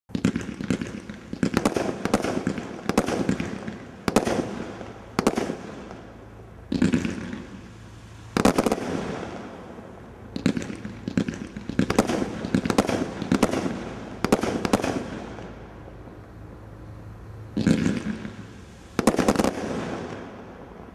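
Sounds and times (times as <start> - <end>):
firework bangs and crackles: 0.1 - 15.9, 17.5 - 20.9.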